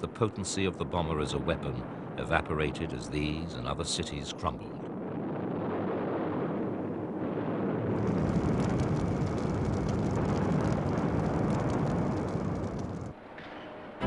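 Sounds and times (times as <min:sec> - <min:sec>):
crackling: 0:00.0 - 0:14.0
explosions rumbling: 0:00.0 - 0:14.0.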